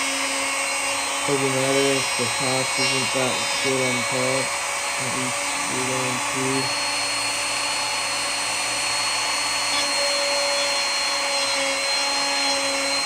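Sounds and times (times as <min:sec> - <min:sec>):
electric router cutting wood: 0:00.0 - 0:13.0.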